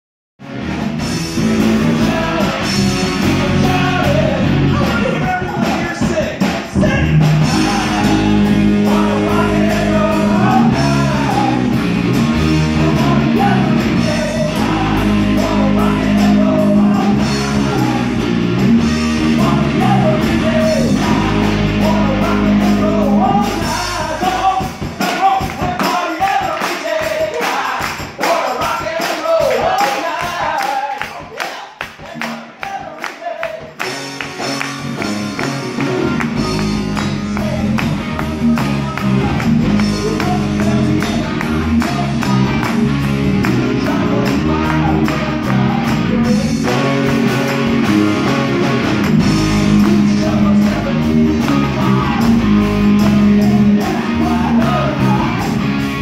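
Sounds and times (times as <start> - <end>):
bass notes: 0.4 - 25.0, 33.8 - 56.0
live rock band playing: 0.4 - 30.3, 33.6 - 56.0
person singing: 1.6 - 33.8, 35.3 - 56.0.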